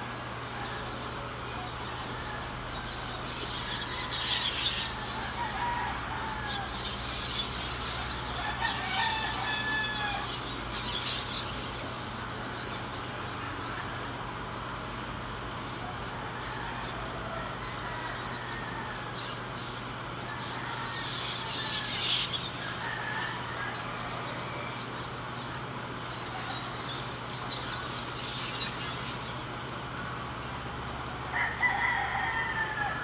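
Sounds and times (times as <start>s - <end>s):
birds calling: 0.0s - 33.0s.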